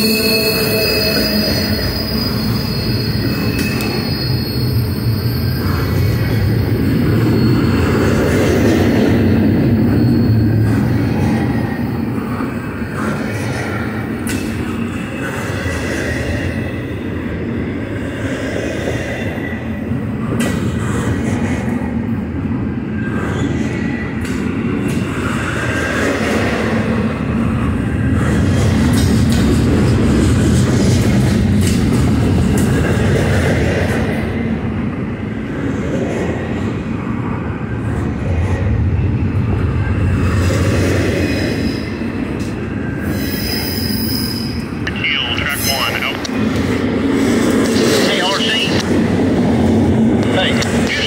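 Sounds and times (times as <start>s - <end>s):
freight train wheels rumbling on rail: 0.0s - 51.0s.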